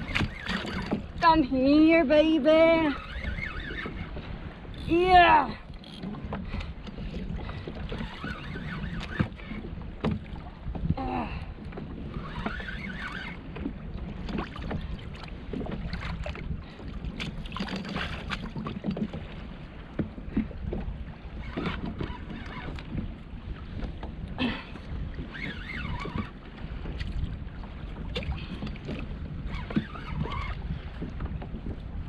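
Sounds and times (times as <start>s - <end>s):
water moving against kayak: 0.0s - 32.0s
wind buffeting microphone: 0.0s - 32.0s.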